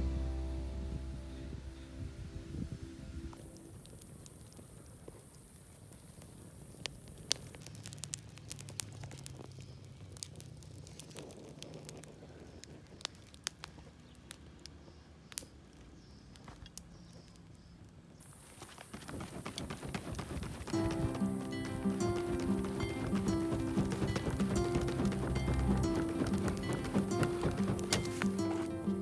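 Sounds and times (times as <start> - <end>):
low fire rumble: 0.0 - 16.8, 18.8 - 29.0
wood fire crackling and popping: 3.4 - 29.0.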